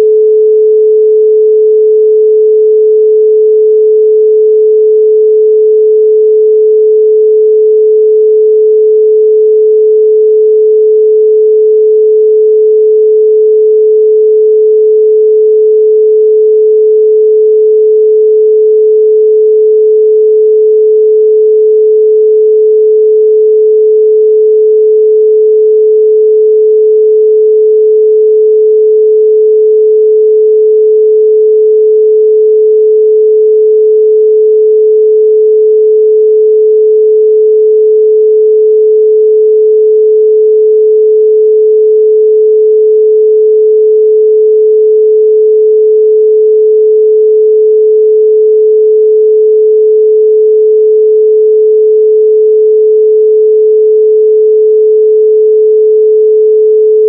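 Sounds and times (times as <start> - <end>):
pure sine tone: 0.0 - 57.0.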